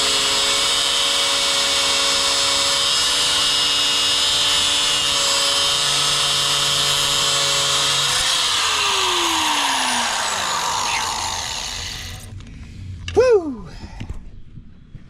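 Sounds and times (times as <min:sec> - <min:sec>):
power tool cutting steel: 0:00.0 - 0:12.3.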